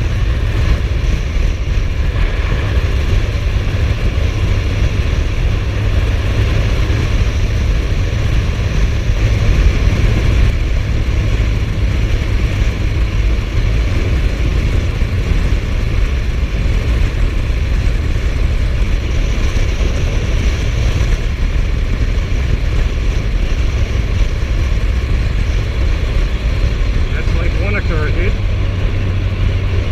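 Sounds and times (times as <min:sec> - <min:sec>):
motorcycle engine rumble: 0:00.0 - 0:29.9
wind rushing over microphone: 0:00.0 - 0:29.9.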